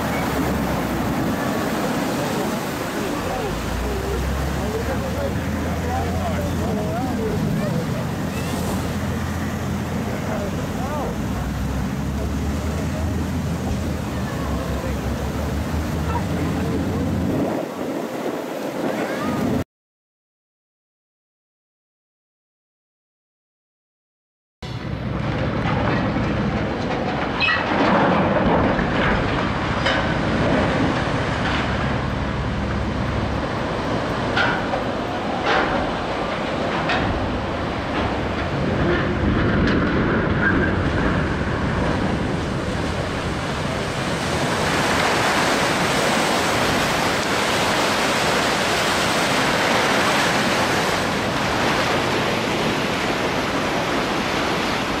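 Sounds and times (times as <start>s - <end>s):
ship hull sliding with low rumble: 0.0s - 19.6s, 24.7s - 55.0s
wave rushing and splashing: 0.0s - 19.6s, 24.7s - 55.0s.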